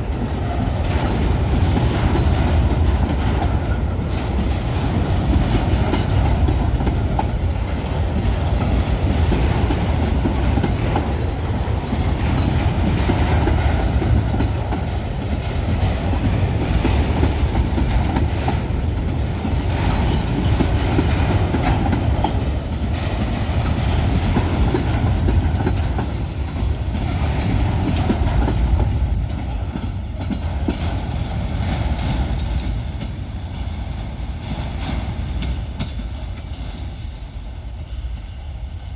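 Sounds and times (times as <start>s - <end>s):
freight wagons clattering over rails: 0.0s - 37.0s.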